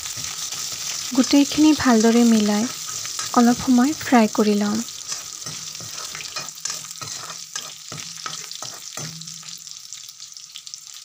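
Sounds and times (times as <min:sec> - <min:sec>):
metal spatula scraping a pan: 0:00.0 - 0:09.8
spices sizzling in hot oil: 0:00.0 - 0:11.0.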